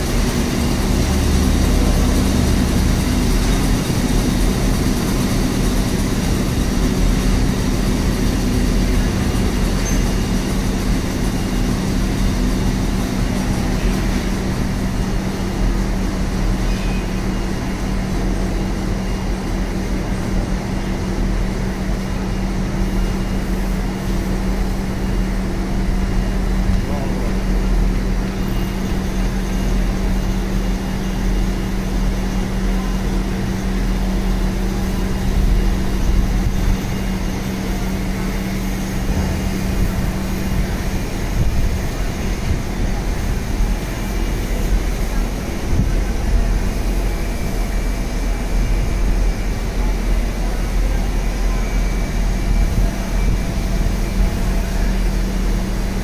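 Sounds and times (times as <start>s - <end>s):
machine hum with hiss: 0.0s - 56.0s.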